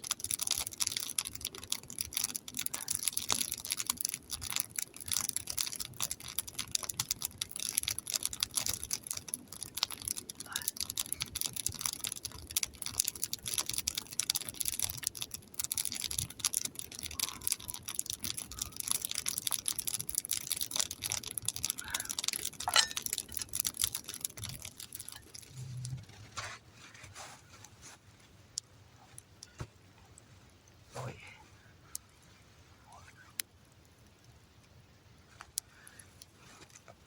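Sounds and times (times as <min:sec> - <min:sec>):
campfire crackling and popping: 0:00.0 - 0:26.5, 0:28.2 - 0:30.8, 0:33.1 - 0:37.0.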